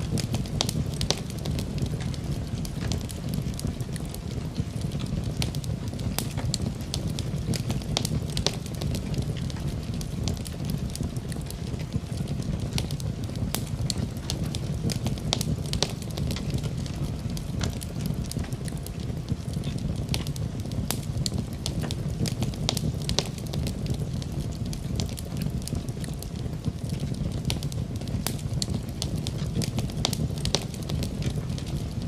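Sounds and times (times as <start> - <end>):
fire crackling and popping: 0.0 - 32.0
fire rumbling: 0.0 - 32.0.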